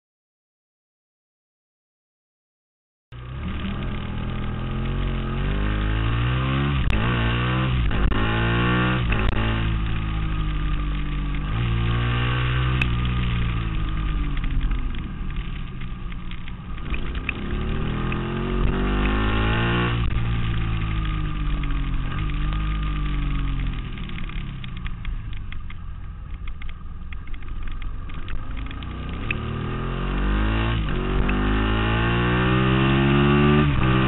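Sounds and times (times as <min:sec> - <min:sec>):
motorcycle engine accelerating: 0:03.1 - 0:34.0.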